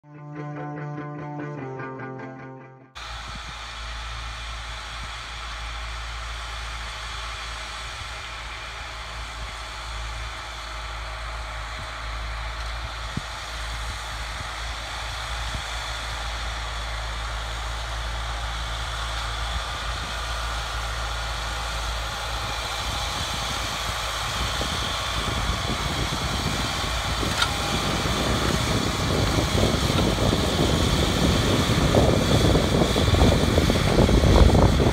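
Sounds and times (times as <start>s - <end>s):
tractor diesel engine under load: 3.0s - 34.9s.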